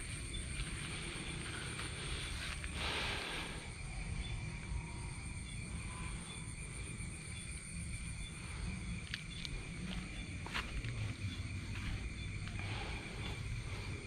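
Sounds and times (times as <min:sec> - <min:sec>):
crickets and insects calling: 0:00.0 - 0:14.0.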